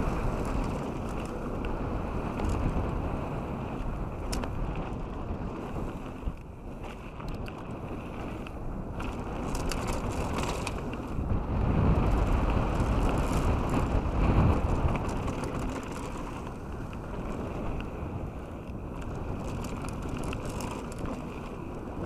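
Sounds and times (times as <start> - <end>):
bike tyres crunching on gravel: 0.0 - 22.0
wind rushing on microphone: 0.0 - 22.0.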